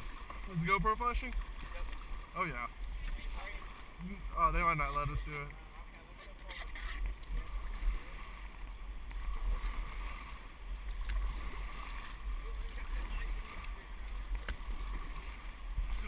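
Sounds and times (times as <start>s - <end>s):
low microphone rumble: 0.0s - 16.0s
water lapping against raft: 0.0s - 16.0s.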